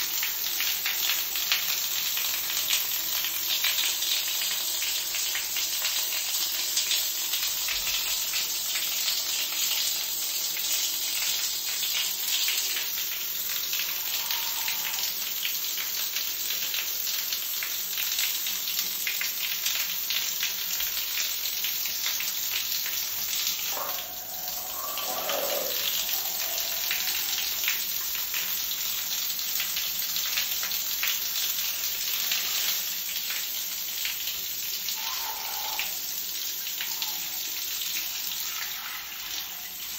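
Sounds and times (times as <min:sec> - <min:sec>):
shower water splashing on tiles: 0:00.0 - 0:39.9.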